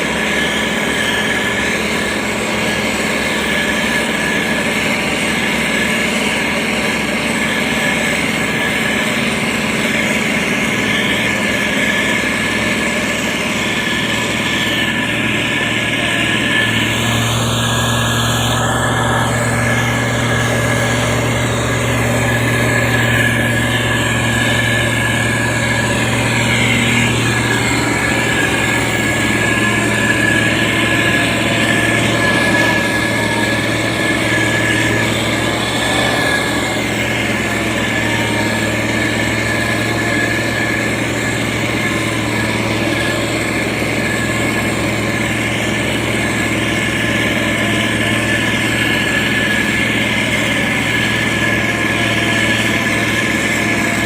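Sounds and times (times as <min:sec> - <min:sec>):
diesel engine of heavy machine: 0:00.0 - 0:54.0.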